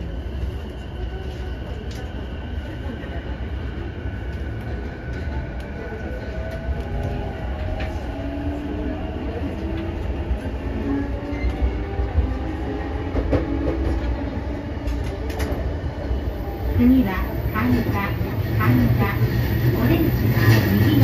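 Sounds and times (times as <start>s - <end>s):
rumble of wheels on rail: 0.0s - 21.0s.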